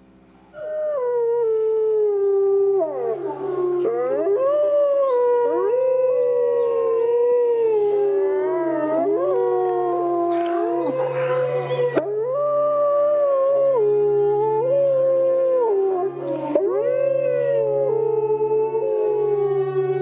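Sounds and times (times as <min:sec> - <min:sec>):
wolves howling: 0:00.5 - 0:20.0.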